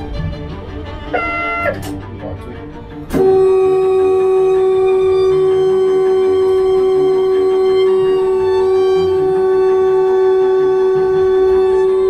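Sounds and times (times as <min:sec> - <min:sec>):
train horn long blast: 0:01.1 - 0:02.0, 0:03.1 - 0:12.0.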